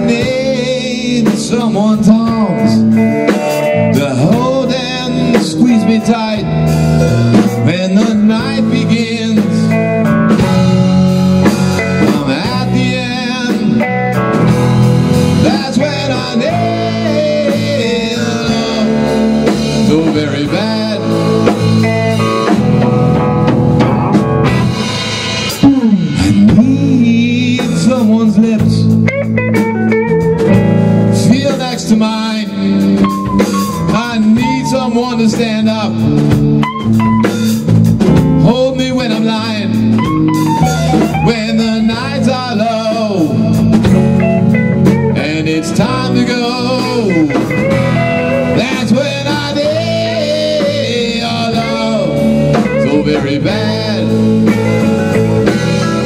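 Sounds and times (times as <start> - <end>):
drum kit: 0.0 - 56.0
electric bass: 0.0 - 56.0
electric guitar bending notes: 0.0 - 56.0.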